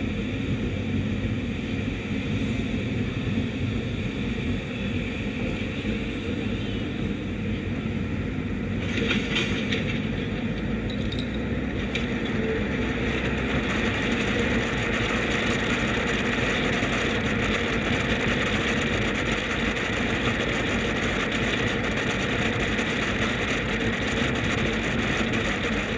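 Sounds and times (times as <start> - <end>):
tyre and road noise: 0.0 - 25.9.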